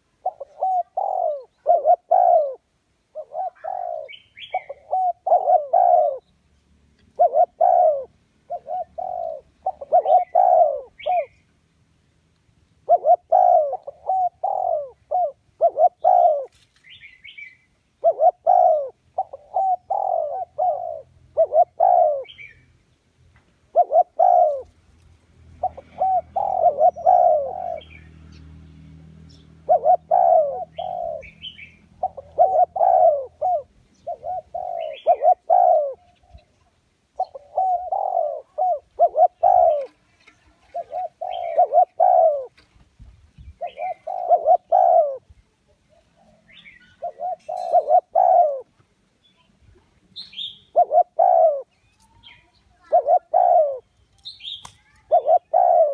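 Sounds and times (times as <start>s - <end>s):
dove cooing: 0.0s - 6.3s, 7.1s - 11.4s, 12.8s - 17.0s, 18.0s - 22.6s, 23.7s - 28.1s, 29.3s - 36.5s, 37.1s - 42.7s, 43.4s - 48.8s, 50.3s - 55.9s.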